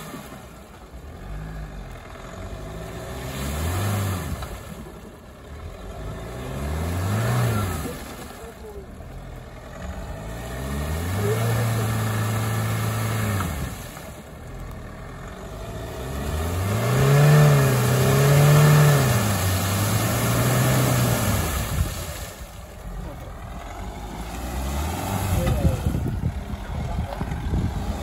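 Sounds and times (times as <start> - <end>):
engine revving: 0.0 - 28.0
wheels spinning in mud: 0.0 - 28.0.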